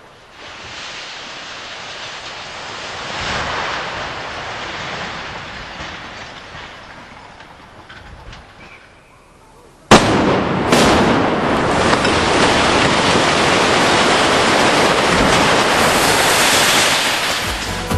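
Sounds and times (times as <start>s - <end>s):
explosive blasts: 0.3s - 7.3s, 9.9s - 17.9s
building collapsing rubble falling: 0.4s - 8.9s, 9.9s - 17.7s.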